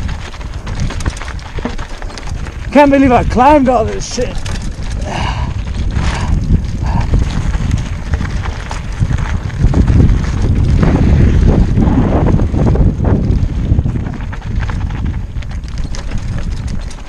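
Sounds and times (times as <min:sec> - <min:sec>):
bike rattling over bumps: 0:00.0 - 0:17.0
tyres crunching over loose stones: 0:00.0 - 0:17.0.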